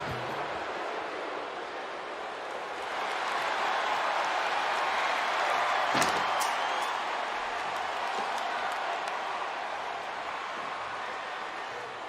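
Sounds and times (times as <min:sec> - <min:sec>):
crowd cheering and chatter: 0:00.0 - 0:12.0
people clapping: 0:00.1 - 0:12.0.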